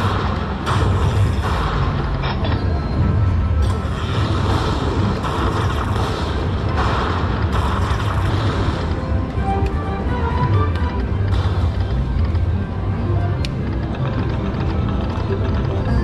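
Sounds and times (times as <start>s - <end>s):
slot machine music and jingles: 0.0s - 16.0s.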